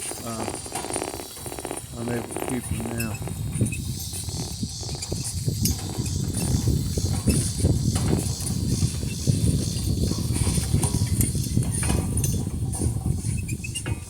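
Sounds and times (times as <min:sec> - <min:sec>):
donkey hoofbeats: 0:00.0 - 0:14.0
harness clinks: 0:00.0 - 0:14.0.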